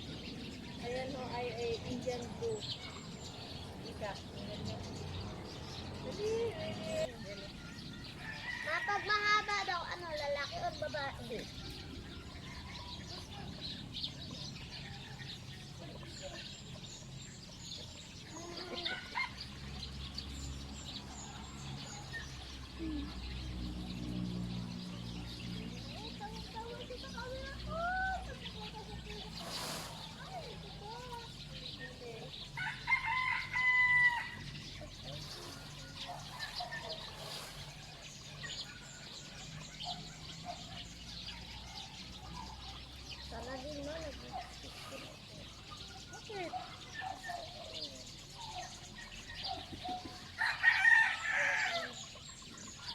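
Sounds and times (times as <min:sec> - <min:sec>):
birds chirping and twittering: 0:00.0 - 0:52.9.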